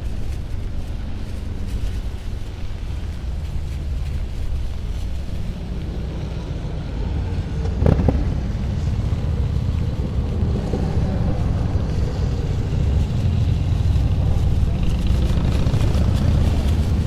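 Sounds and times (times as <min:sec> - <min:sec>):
street traffic noise: 0:00.0 - 0:17.0
wind buffeting microphone: 0:00.0 - 0:17.0.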